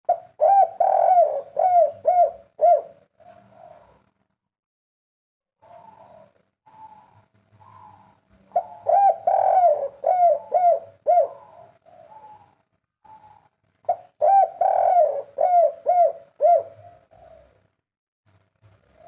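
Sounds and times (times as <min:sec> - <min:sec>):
dove cooing: 0:00.1 - 0:04.1, 0:05.6 - 0:17.7.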